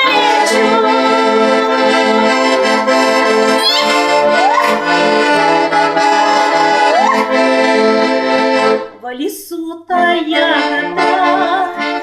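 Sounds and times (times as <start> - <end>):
accordion playing: 0.0 - 9.0, 10.0 - 12.0.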